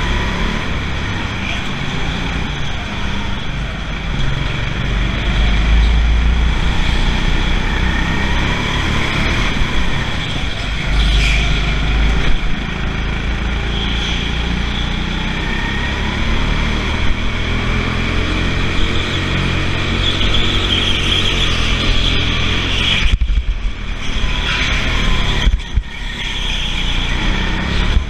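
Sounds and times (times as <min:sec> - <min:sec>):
go-kart motor running: 0:00.0 - 0:28.0.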